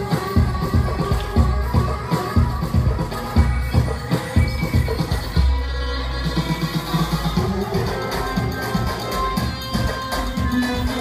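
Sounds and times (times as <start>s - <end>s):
steady low drum beat: 0.0s - 5.5s, 6.2s - 11.0s
electronic dance music: 0.0s - 11.0s.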